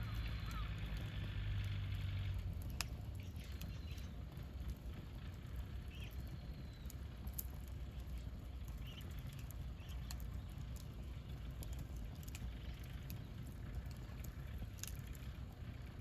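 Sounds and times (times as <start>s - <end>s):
campfire low rumble: 0.0s - 16.0s
fire crackles and pops: 0.0s - 16.0s.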